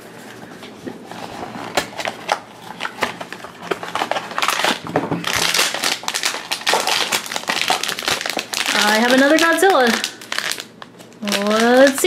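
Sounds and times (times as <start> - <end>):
foil bag crinkling: 0.2 - 12.0.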